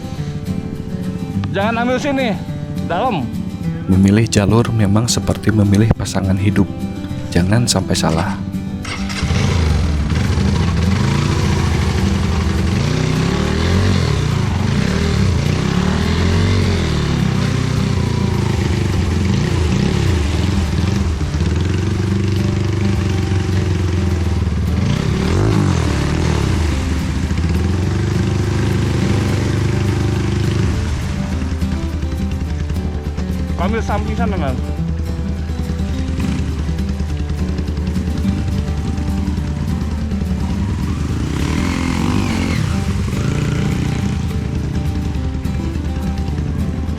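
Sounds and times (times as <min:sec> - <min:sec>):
motorcycle engine revving hard: 0:07.9 - 0:46.9.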